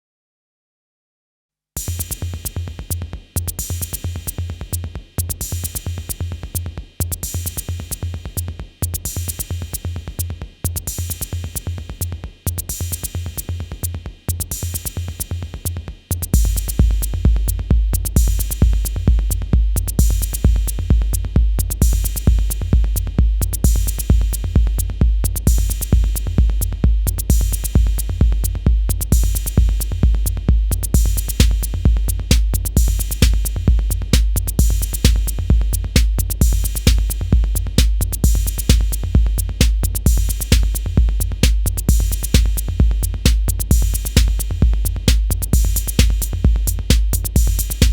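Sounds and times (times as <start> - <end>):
drum machine beat: 1.8 - 47.9.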